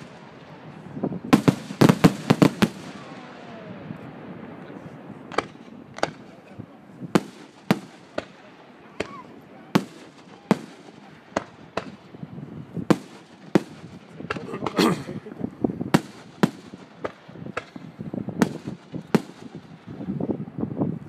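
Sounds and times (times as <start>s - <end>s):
fireworks bangs: 0.0s - 20.4s
fireworks crackling: 0.0s - 21.0s.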